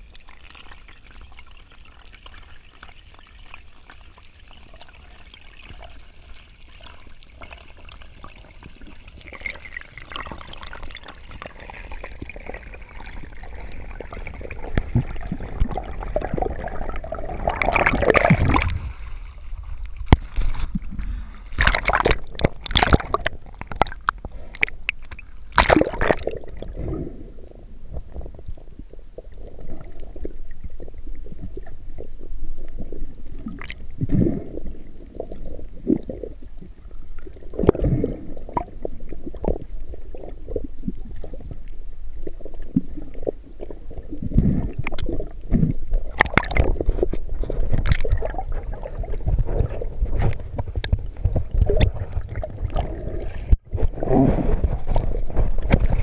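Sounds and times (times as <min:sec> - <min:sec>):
underwater swishing and gurgling: 0:00.0 - 0:56.0.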